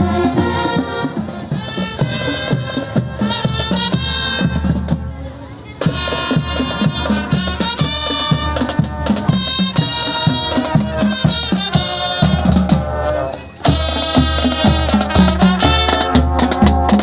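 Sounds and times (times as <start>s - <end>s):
snare and bass drums: 0.0s - 5.2s, 5.8s - 17.0s
brass horns playing melody: 0.0s - 17.0s.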